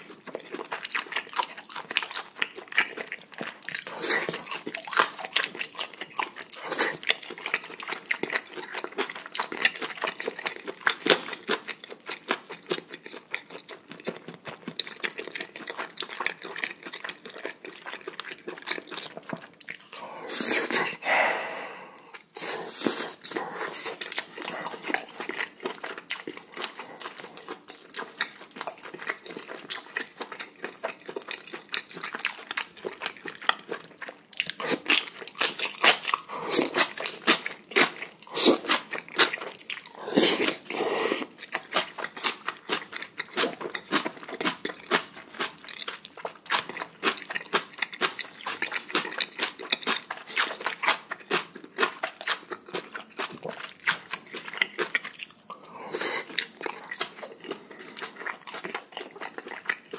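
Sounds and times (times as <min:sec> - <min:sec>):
person chewing and crunching: 0:00.0 - 0:59.9.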